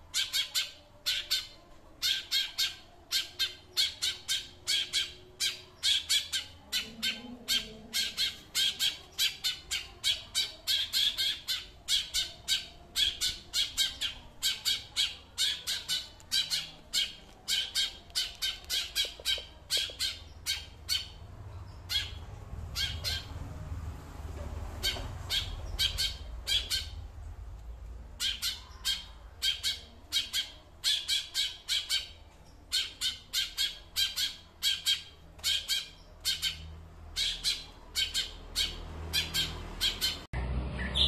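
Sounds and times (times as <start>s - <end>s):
small bird harsh chatter: 0.1s - 23.4s, 24.8s - 27.1s, 28.1s - 41.0s.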